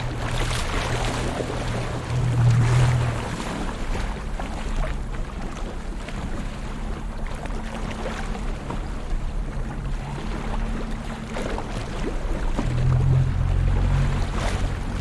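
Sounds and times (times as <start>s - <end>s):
sea water sloshing and lapping: 0.0s - 15.0s
small splashes: 0.0s - 15.0s
steady low hum: 0.0s - 15.0s.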